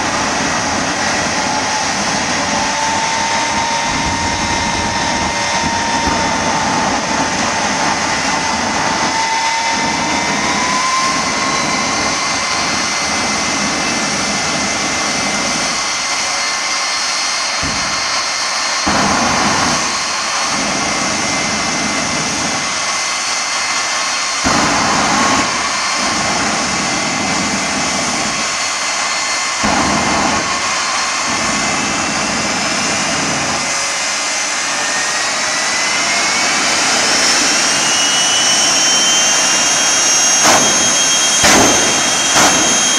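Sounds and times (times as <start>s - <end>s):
exhaust rushing: 0.0s - 42.9s
jet engine whining: 0.0s - 42.9s.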